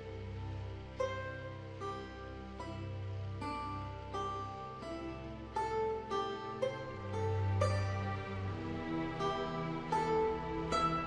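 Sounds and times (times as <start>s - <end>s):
slow single-note melody: 0.0s - 11.0s.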